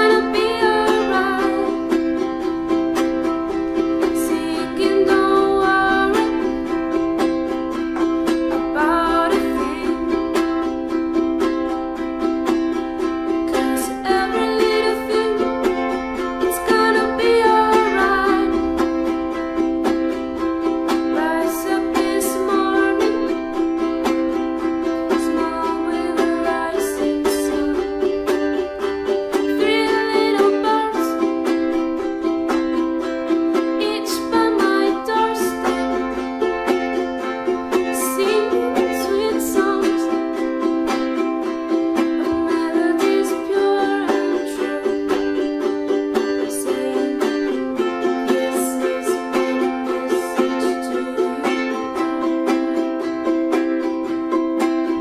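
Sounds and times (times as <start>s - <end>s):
ukulele strumming: 0.0s - 55.0s.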